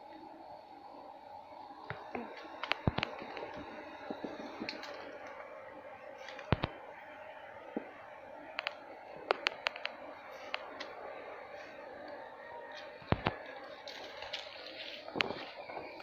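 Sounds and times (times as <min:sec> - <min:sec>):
faint steady hum: 0:00.0 - 0:16.0
dry fronds and wood crackling: 0:01.8 - 0:16.0.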